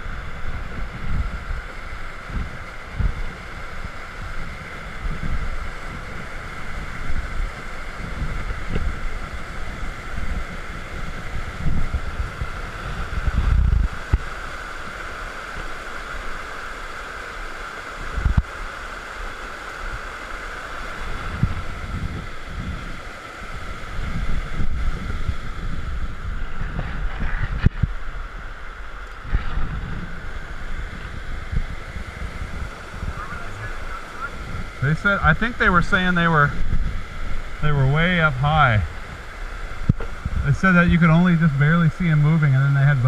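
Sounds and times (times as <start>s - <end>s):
creek water rushing: 0.0s - 43.0s
wind rumble on microphone: 0.0s - 43.0s.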